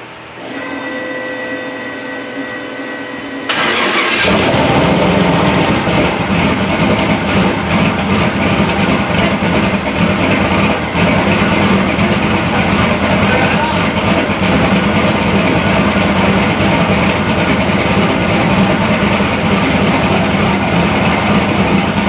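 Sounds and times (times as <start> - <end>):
steady whine: 0.0 - 22.0
engine running loudly: 3.5 - 22.0.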